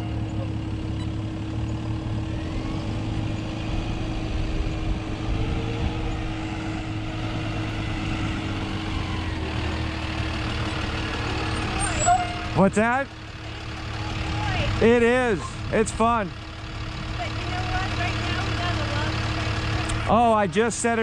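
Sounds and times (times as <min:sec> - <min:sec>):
truck engine humming: 0:00.0 - 0:21.0.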